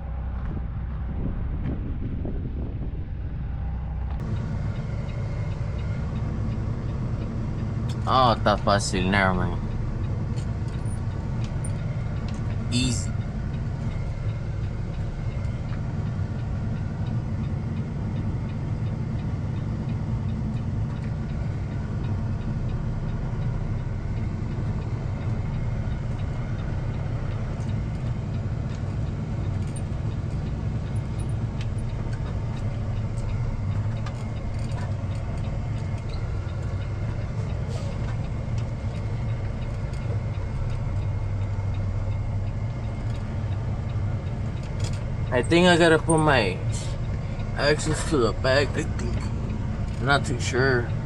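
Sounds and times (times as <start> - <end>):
diesel engine droning: 0.0 - 51.0.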